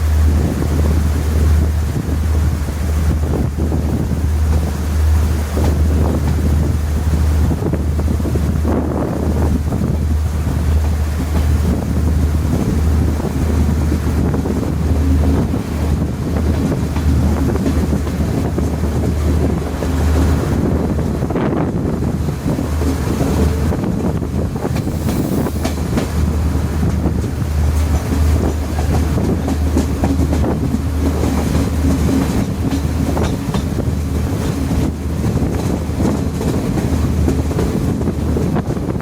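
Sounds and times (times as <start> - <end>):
train rumbling at speed: 0.0 - 39.0.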